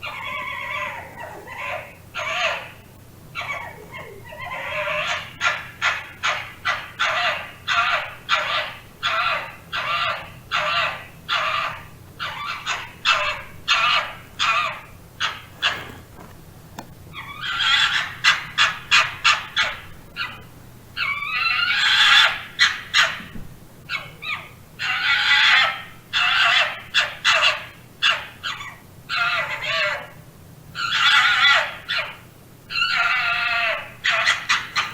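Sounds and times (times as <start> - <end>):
fox barking: 0.0 - 16.3, 17.1 - 23.3, 23.9 - 30.2, 30.8 - 34.9.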